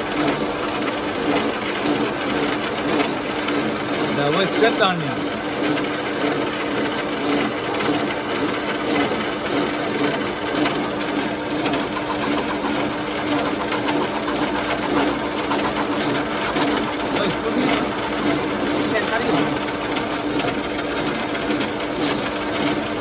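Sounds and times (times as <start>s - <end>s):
lathe motor humming: 0.0s - 23.0s.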